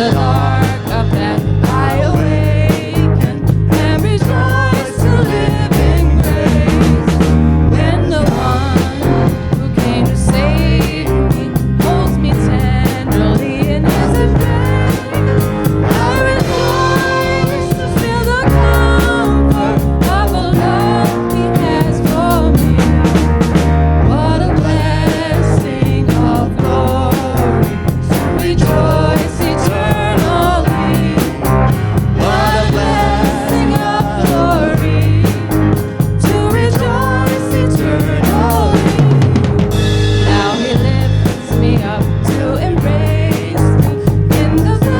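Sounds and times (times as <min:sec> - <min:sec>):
singing: 0:00.0 - 0:23.2, 0:24.1 - 0:39.5, 0:40.2 - 0:44.9
bass: 0:00.0 - 0:44.9
drums: 0:00.0 - 0:44.9
worship band playing: 0:00.0 - 0:44.9.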